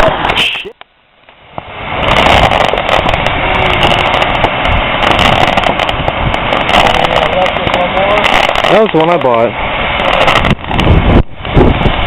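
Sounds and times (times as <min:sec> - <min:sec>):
firework crackling: 0:00.0 - 0:12.0.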